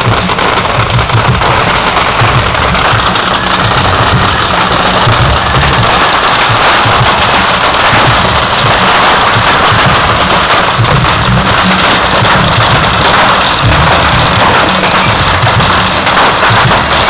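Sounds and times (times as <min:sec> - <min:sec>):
fireworks crackling and hissing: 0:00.0 - 0:17.0.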